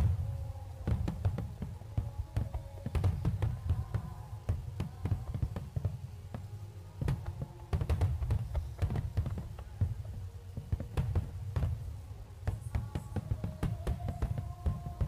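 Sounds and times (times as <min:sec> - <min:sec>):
faint music: 0:00.0 - 0:15.0
fireworks bangs and cracks: 0:00.0 - 0:15.0.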